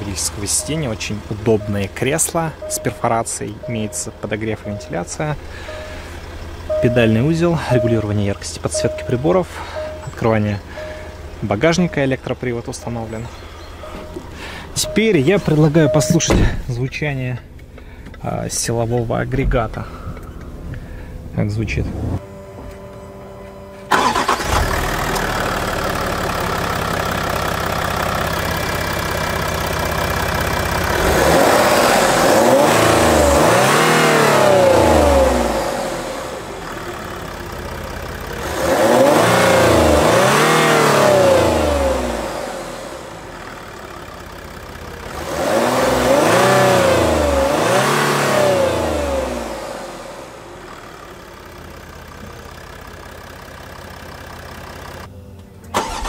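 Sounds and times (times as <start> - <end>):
engine revving: 0.0 - 16.6, 23.9 - 52.2, 55.8 - 56.0
car engine starting and idling: 0.0 - 56.0.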